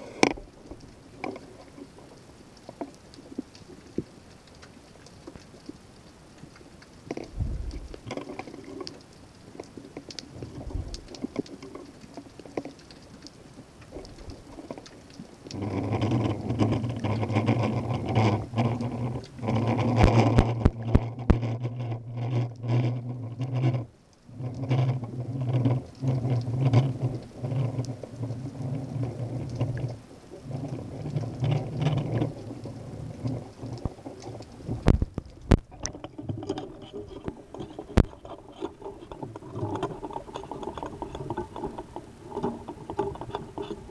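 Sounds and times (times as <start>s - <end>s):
low underwater engine hum: 0.0s - 43.9s.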